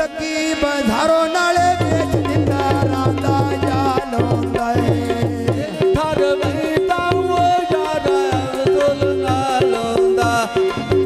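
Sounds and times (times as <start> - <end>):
tabla drumming: 0.0 - 11.0
melody of bending notes: 1.2 - 11.0.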